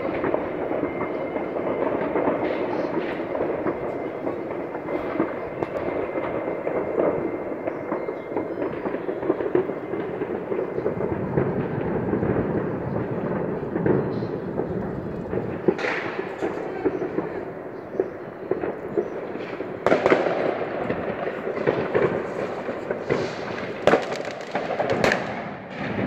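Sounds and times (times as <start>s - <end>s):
distant fireworks and firecrackers: 0.0s - 26.0s.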